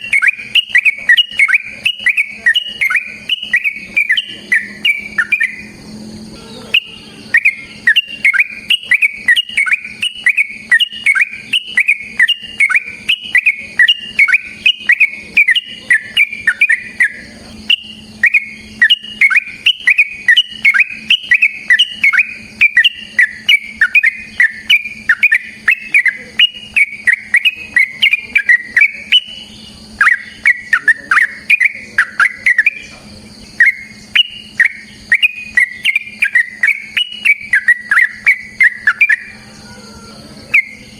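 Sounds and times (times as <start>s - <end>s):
bird singing rapid chirps: 0.0s - 40.9s.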